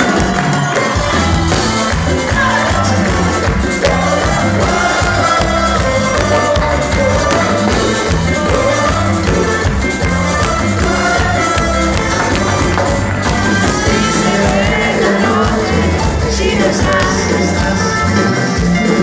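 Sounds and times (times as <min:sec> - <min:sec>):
person singing: 0:00.0 - 0:19.0
repeating bass beat: 0:00.0 - 0:19.0.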